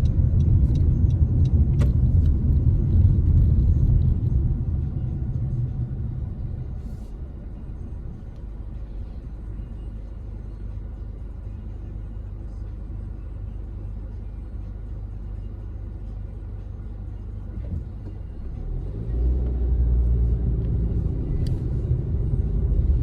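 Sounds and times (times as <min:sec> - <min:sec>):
car cabin rumble while driving: 0:00.0 - 0:23.0.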